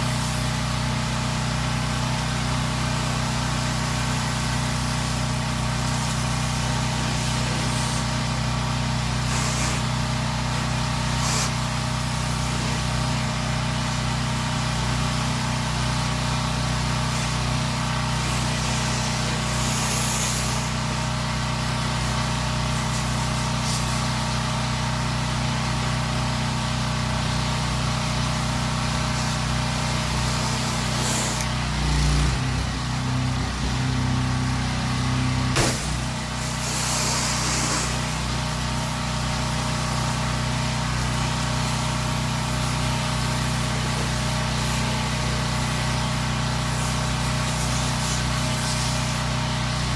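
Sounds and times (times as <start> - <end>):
small gas engine running: 0.0 - 49.9
spraying water hiss: 3.0 - 24.4, 28.1 - 40.7, 41.3 - 49.4.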